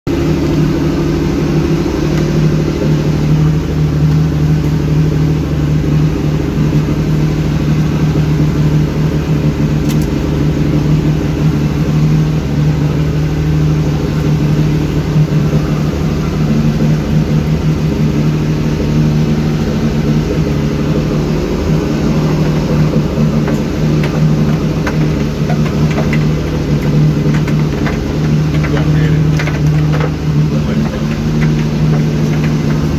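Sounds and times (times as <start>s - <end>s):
boat engine running: 0.1s - 32.9s.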